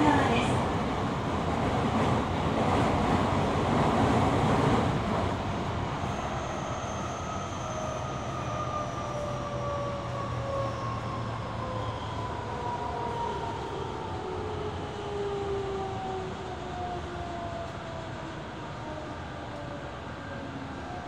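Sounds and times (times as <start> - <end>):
train wheels rumbling on track: 0.0 - 20.6.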